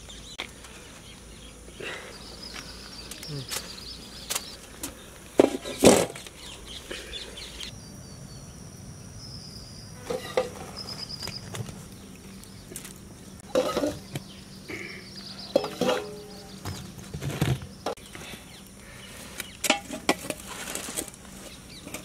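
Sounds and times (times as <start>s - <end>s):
birds chirping: 0.0s - 19.8s, 20.4s - 22.0s.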